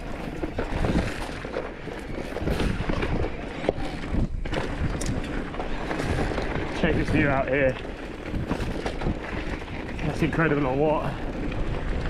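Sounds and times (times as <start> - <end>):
bike clattering over rocky trail: 0.0 - 12.0.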